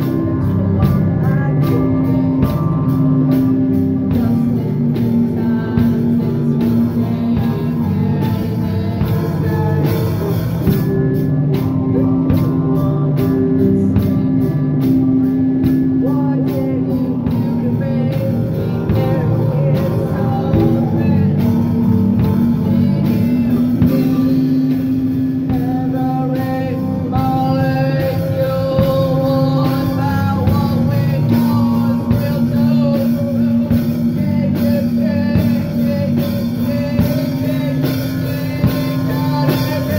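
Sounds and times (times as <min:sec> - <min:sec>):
drum kit: 0:00.0 - 0:39.9
electric guitar: 0:00.0 - 0:39.9
woman singing: 0:00.0 - 0:39.9.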